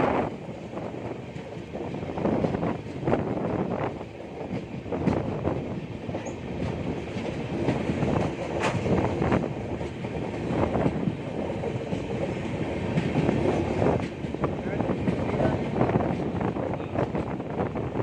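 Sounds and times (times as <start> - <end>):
train wheels clattering over rail joints: 0.2 - 18.0.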